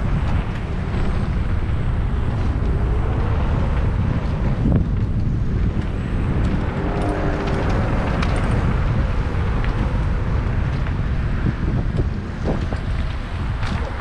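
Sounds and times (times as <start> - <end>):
bike clicks and rattles: 0.0 - 14.0
bike tyres rolling on dirt trail: 0.0 - 14.0
wind buffeting microphone: 0.0 - 14.0.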